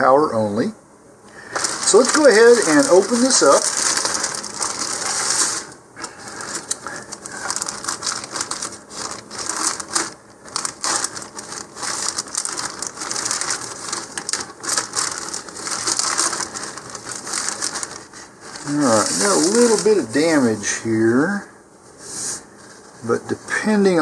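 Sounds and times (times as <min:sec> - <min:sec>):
plastic bag crinkling: 0:01.3 - 0:20.7.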